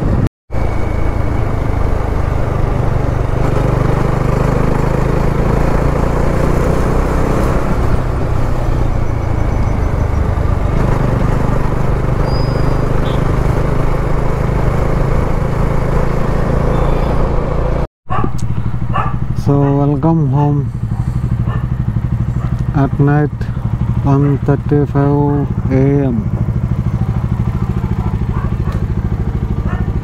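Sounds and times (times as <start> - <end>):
motorcycle engine cruising: 0.0 - 30.0
wind and road rush: 0.0 - 30.0.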